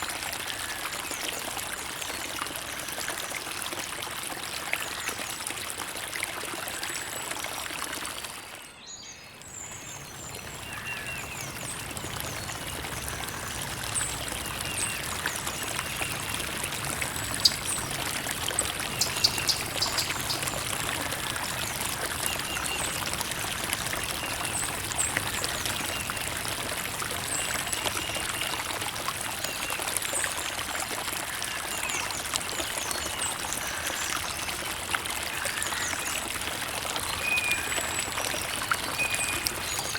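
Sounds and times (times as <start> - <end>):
creek water babbling: 0.0 - 39.9.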